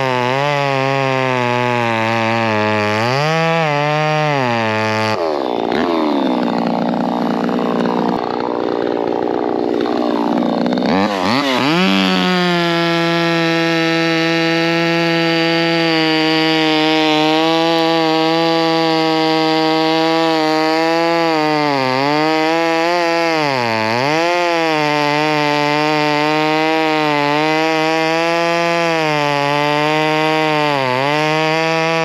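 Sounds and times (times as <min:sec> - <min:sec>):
chainsaw running at high revs: 0:00.0 - 0:32.0.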